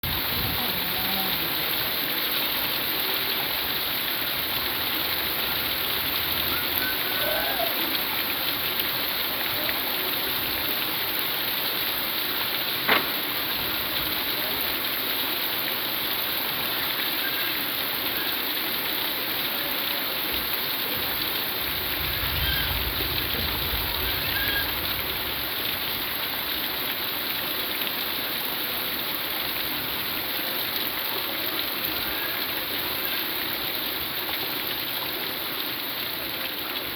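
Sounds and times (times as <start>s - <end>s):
heavy rain hissing: 0.0s - 36.9s.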